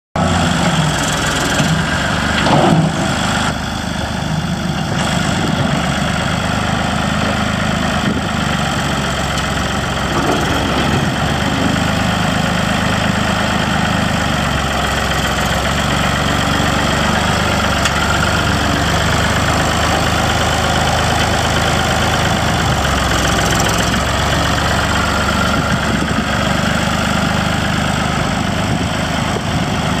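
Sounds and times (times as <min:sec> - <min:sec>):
tractor diesel engine running: 0:00.2 - 0:30.0.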